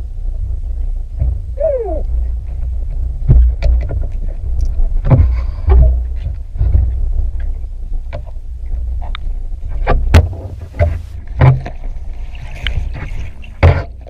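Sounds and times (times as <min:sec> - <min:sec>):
low underwater rumble: 0:00.0 - 0:14.0.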